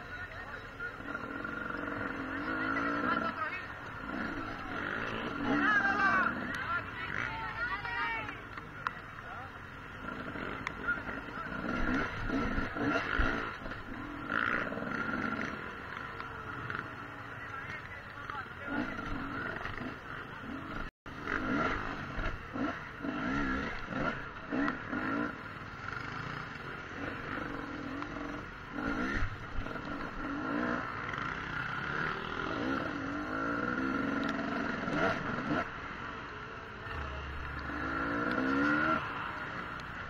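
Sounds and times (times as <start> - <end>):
dirt bike engine revving: 0.0 - 8.3, 9.3 - 40.0.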